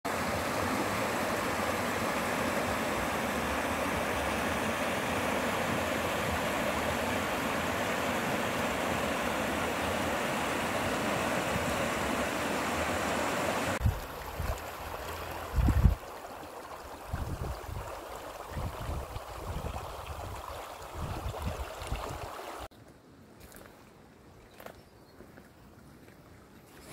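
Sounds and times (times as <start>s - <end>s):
stream flowing: 0.1s - 22.7s.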